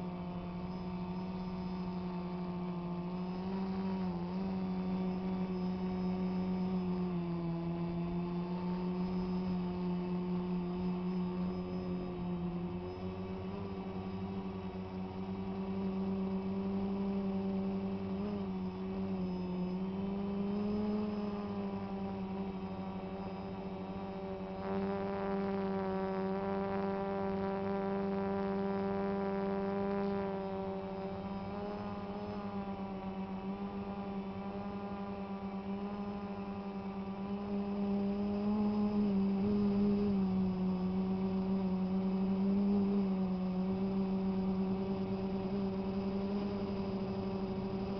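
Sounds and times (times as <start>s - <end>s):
drone propellers humming: 0.0s - 47.9s.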